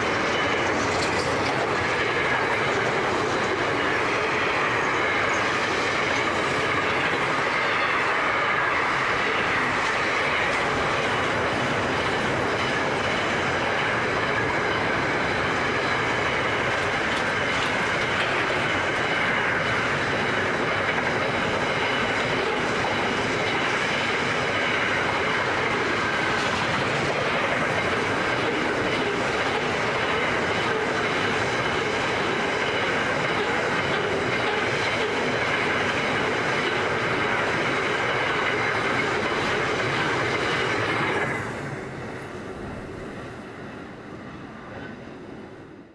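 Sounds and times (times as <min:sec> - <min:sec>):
freight train wheels on rail: 0:00.0 - 0:45.9.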